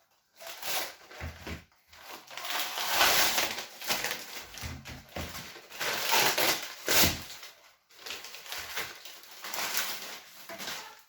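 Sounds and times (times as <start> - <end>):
rustling and crinkling: 0.0 - 11.0.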